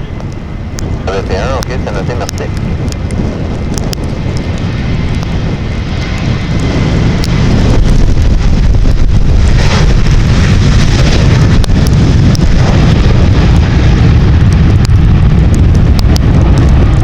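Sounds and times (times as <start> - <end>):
jet engine noise: 0.0 - 17.0
wind buffeting microphone: 0.0 - 17.0.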